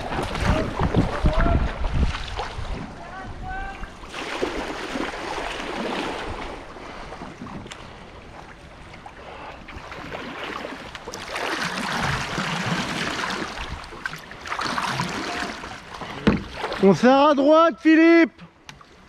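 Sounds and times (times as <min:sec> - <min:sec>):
whitewater rushing around canoe: 0:00.0 - 0:19.0.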